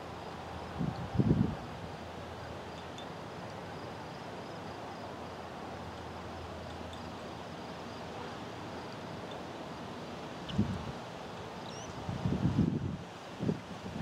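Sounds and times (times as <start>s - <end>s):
insects chirping: 0.0s - 12.6s
steady hiss: 0.0s - 14.0s.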